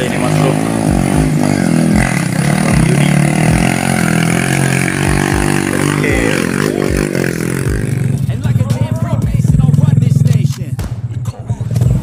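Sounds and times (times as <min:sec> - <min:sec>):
motorcycle engine labouring: 0:00.0 - 0:12.0.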